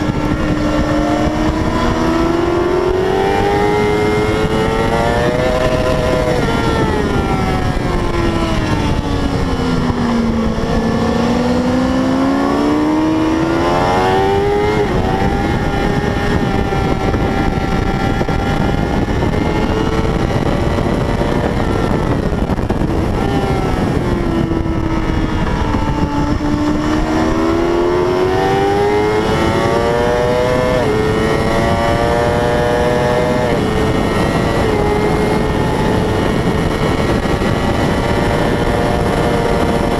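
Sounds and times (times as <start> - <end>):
racing motorcycle engine revving: 0.0 - 39.9
wind and road noise: 0.0 - 39.9.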